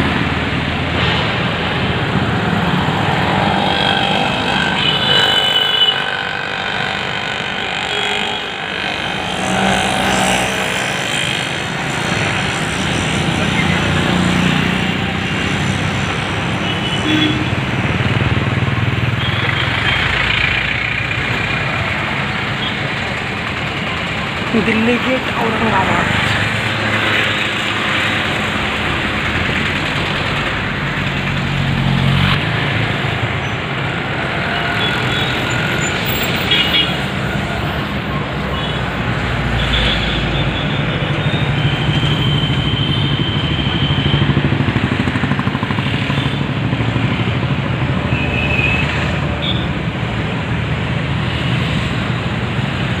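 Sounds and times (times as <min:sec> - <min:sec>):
passing vehicle engines: 0:00.0 - 0:53.0.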